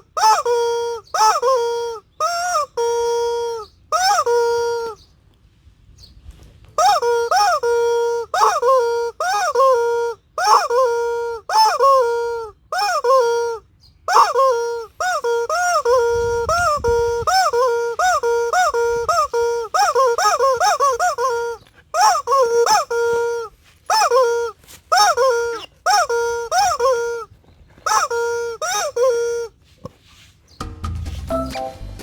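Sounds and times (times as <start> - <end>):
squeaky rubber chicken toy: 0.0 - 5.0, 6.8 - 29.6.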